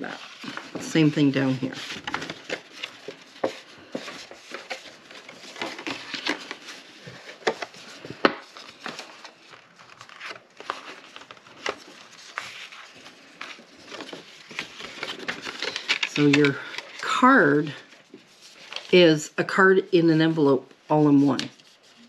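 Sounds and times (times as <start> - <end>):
paper rustling and crinkling: 0.0 - 19.1, 20.9 - 22.0.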